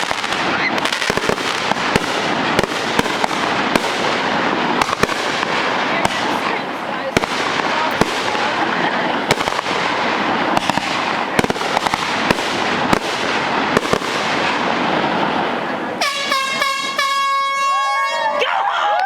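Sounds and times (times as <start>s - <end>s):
fireworks crackling and popping: 0.0s - 18.2s.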